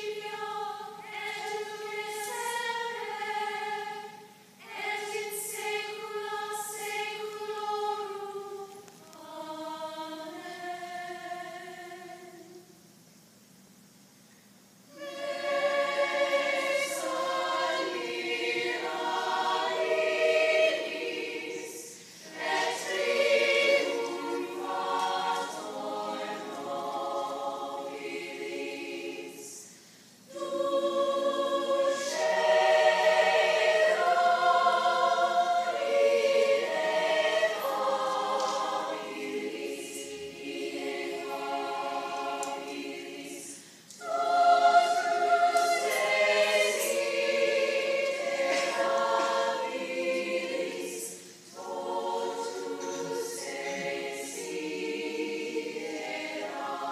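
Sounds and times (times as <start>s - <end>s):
women's choir singing: 0.0s - 12.8s, 14.9s - 56.9s.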